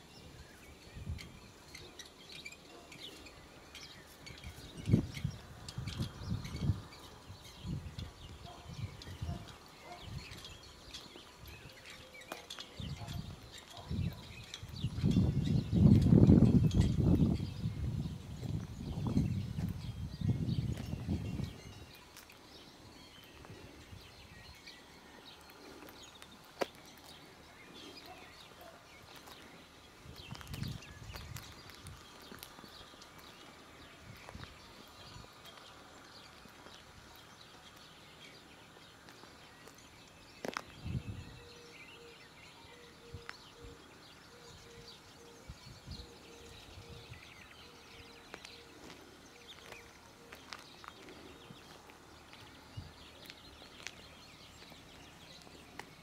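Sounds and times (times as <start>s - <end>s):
bird chirps and calls: 0.0s - 56.0s.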